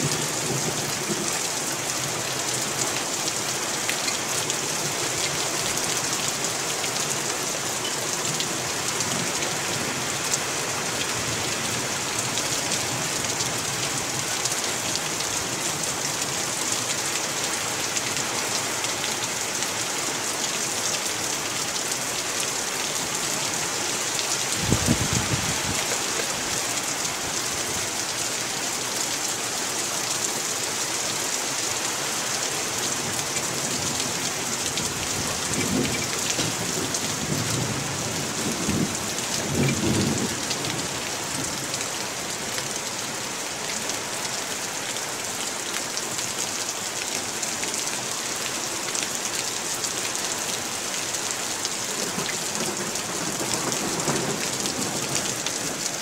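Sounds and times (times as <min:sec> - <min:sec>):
heavy rain on grass: 0:00.0 - 0:56.0
water streaming off roof: 0:00.0 - 0:56.0.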